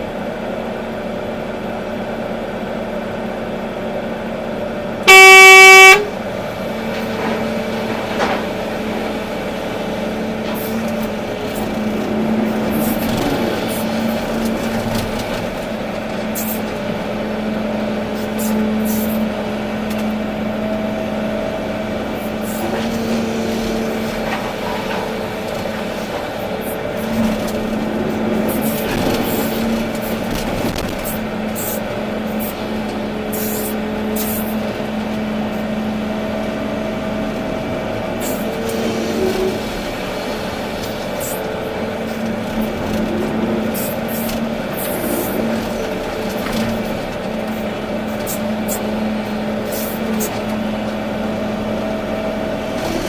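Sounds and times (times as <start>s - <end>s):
excavator engine and hydraulics humming: 0.0s - 53.0s.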